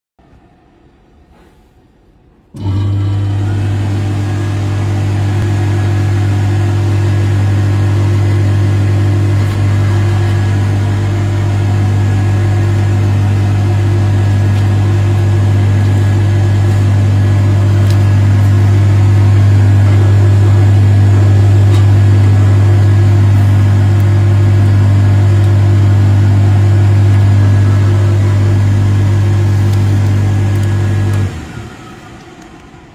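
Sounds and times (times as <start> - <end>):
polishing machine motor humming: 2.6 - 32.2.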